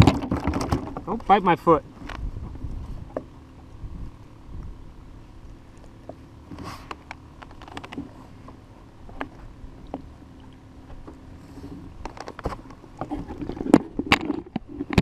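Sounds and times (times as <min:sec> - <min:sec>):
wind rumble on microphone: 0:00.0 - 0:06.7, 0:07.4 - 0:15.0.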